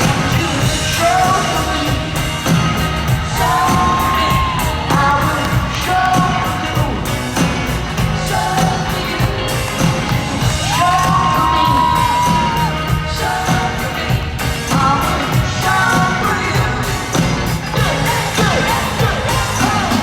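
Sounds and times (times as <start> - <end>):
lead vocal singing: 0.0 - 20.0
live rock band playing: 0.0 - 20.0.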